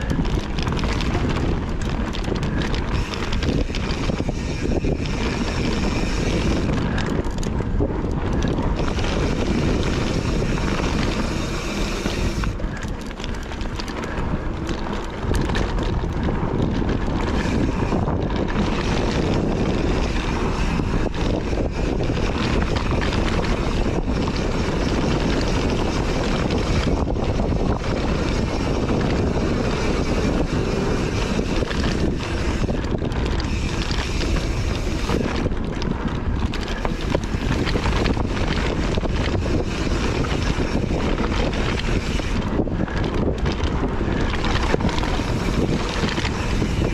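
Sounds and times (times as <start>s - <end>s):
mountain bike on dirt trail: 0.0s - 46.9s
wind noise on microphone: 0.0s - 46.9s.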